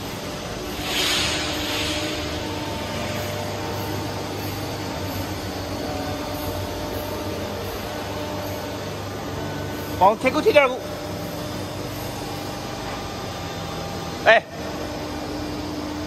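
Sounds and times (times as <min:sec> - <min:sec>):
industrial machinery hum: 0:00.0 - 0:16.0.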